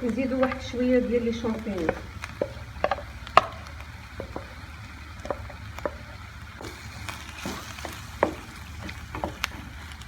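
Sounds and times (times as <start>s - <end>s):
light sizzle: 0.0s - 10.0s
utensil clicking in frying pan: 0.0s - 10.0s.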